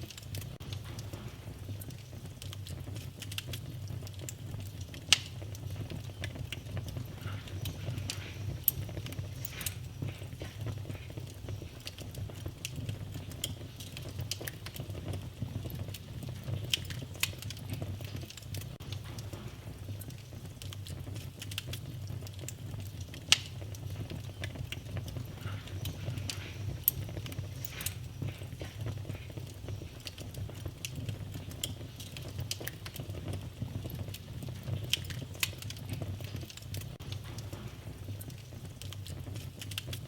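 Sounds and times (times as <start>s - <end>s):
fire crackling: 0.0s - 40.0s
low rumble of flame: 0.0s - 40.0s
sharp pops of fire: 0.0s - 40.0s.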